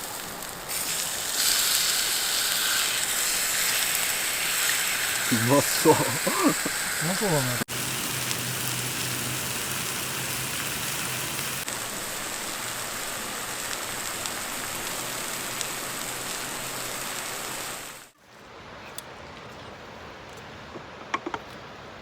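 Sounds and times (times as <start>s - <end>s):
steak sizzling on hot stone: 0.0s - 18.2s.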